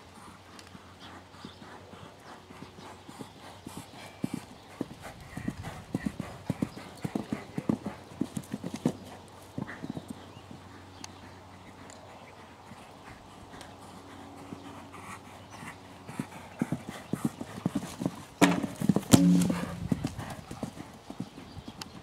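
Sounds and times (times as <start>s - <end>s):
hoofbeats on sand: 0.0s - 22.0s.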